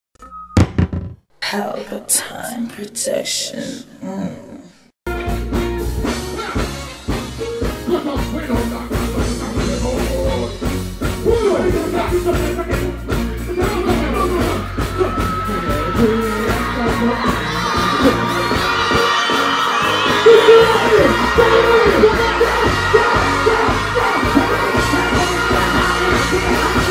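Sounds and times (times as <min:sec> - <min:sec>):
dancehall music with heavy bass: 0:05.1 - 0:26.9.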